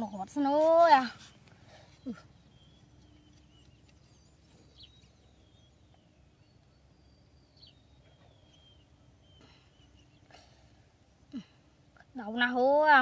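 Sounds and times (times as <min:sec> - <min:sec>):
low steady outdoor hum: 0:00.0 - 0:13.0
faint bird chirps: 0:01.0 - 0:13.0.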